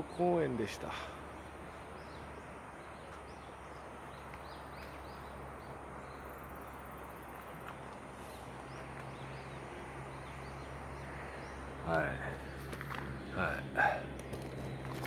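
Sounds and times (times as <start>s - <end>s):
outdoor background hum: 0.0s - 15.0s
small birds chirping: 0.0s - 15.0s.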